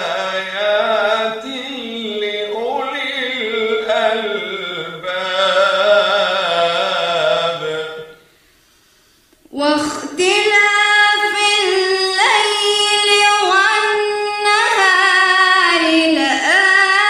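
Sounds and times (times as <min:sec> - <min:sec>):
person chanting melodic recitation: 0:00.0 - 0:08.2, 0:09.5 - 0:17.0.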